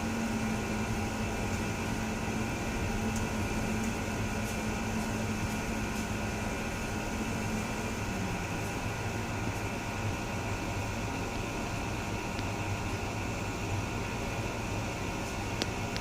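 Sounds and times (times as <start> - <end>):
construction machinery hum: 0.0 - 16.0.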